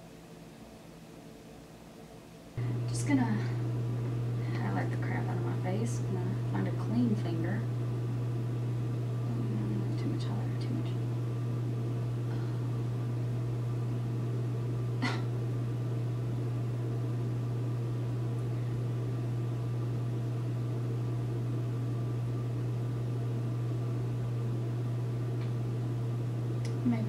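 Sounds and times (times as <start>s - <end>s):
low hum with hiss: 0.0s - 27.0s.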